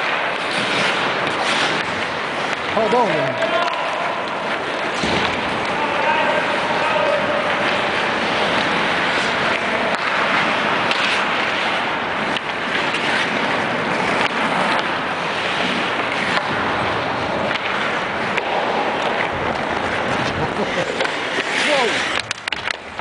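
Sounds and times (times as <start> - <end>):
skate blades scraping ice: 0.0 - 23.0.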